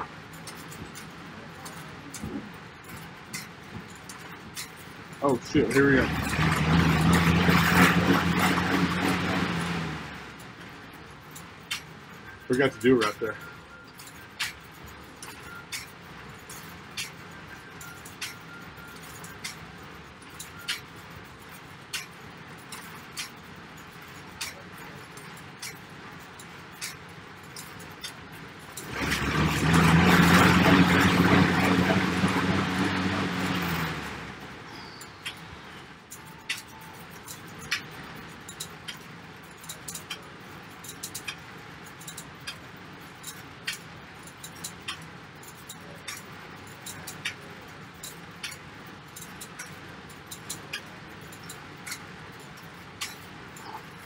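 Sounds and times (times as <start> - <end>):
light jingling clicks: 0.0 - 8.3, 8.9 - 54.0
fan bike whoosh and hum: 0.0 - 54.0.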